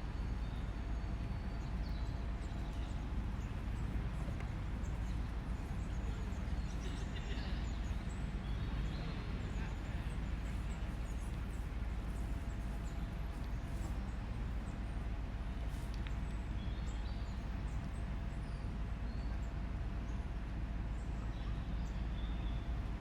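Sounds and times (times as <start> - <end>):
distant traffic rumble: 0.0 - 23.0.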